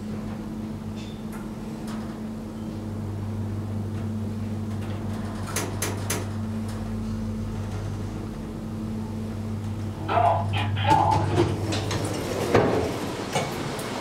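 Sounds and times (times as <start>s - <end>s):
elevator car clattering: 0.0s - 14.0s
elevator pump motor hum: 0.0s - 14.0s.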